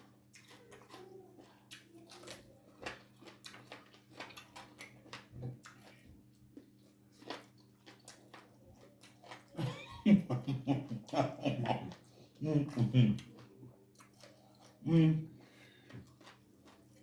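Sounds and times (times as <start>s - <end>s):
faint steady low hum: 0.0s - 17.0s
wet chewing and smacking: 0.0s - 17.0s.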